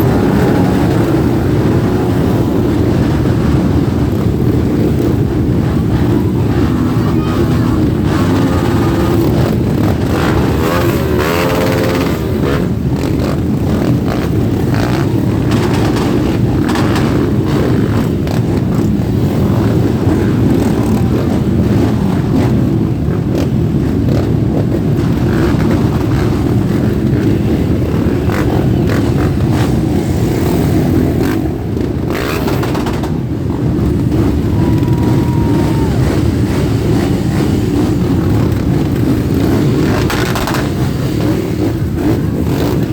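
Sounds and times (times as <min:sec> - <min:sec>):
motorcycle engines revving: 0:00.0 - 0:42.9
motorcycles riding past: 0:00.0 - 0:42.9.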